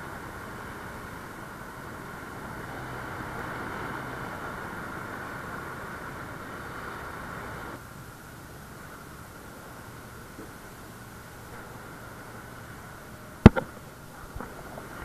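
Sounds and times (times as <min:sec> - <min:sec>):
boat engine drone: 0:00.0 - 0:15.0
water rushing past hull: 0:00.0 - 0:15.0
wind: 0:00.0 - 0:15.0.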